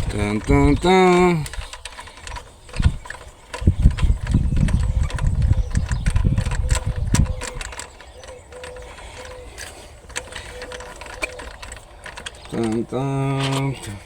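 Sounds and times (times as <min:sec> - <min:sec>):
metal hand tools clicking and rattling: 0:00.0 - 0:14.0.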